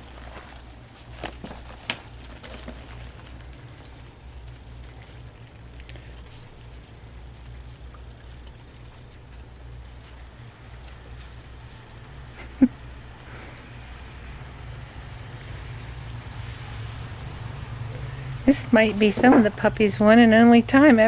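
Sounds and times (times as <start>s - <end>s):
light rain pattering: 0.0s - 21.0s.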